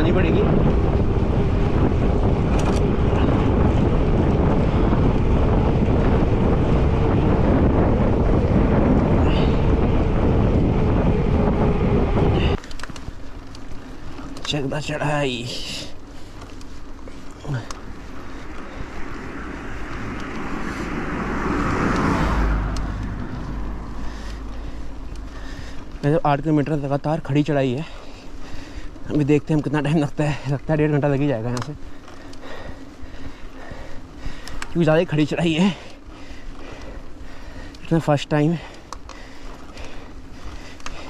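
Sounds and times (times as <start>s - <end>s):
bicycle rolling on road: 0.0s - 41.0s
wind buffeting microphone: 0.0s - 41.0s.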